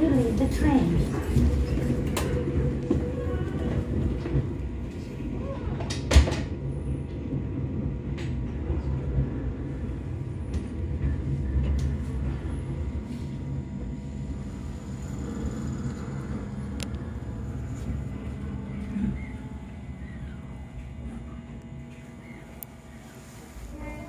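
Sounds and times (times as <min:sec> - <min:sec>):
train running gear rumble: 0:00.0 - 0:24.0.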